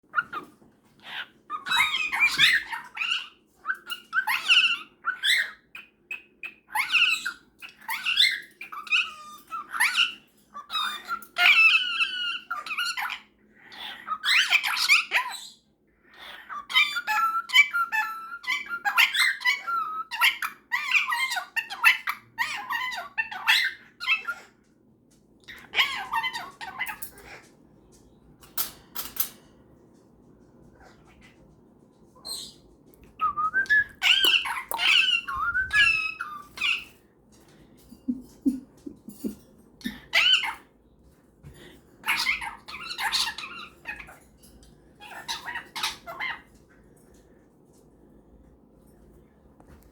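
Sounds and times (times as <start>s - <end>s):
parrots chirping and chattering: 0.1s - 49.2s.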